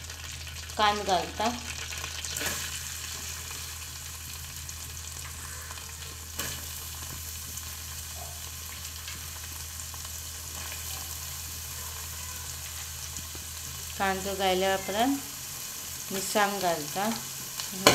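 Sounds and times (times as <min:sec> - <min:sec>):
onion sizzling in butter: 0:00.0 - 0:17.9.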